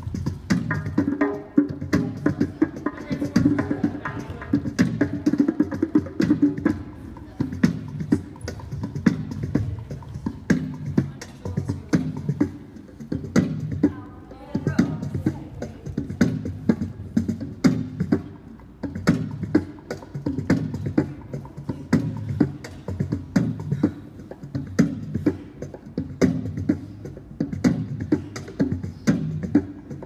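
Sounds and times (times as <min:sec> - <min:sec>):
rhythmic drum strikes: 0:00.0 - 0:30.0.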